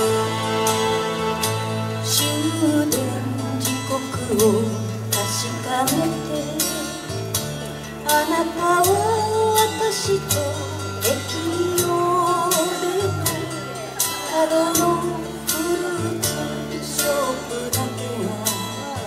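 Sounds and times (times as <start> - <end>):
instrumental accompaniment: 0.0 - 19.0
woman singing a slow ballad: 1.9 - 19.0.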